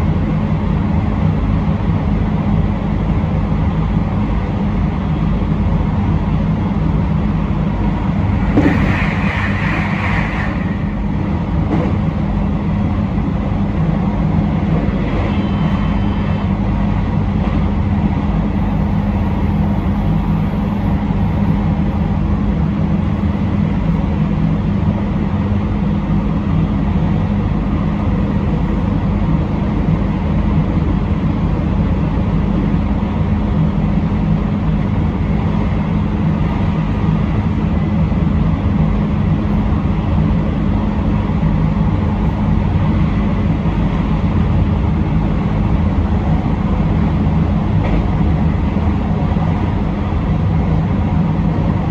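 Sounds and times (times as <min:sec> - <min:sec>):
steady low hum: 0:00.0 - 0:51.9
train wheels rumbling on rails: 0:00.0 - 0:51.9.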